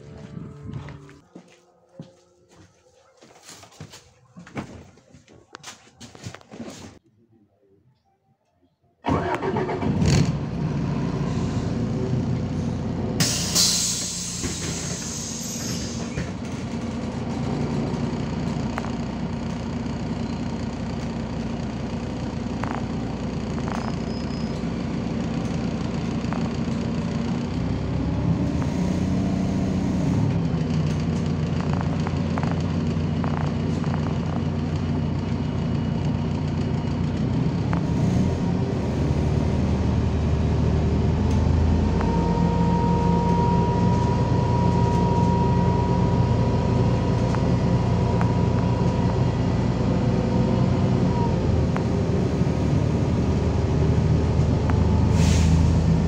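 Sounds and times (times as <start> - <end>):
bus diesel engine running: 0.0 - 1.2, 9.0 - 56.0.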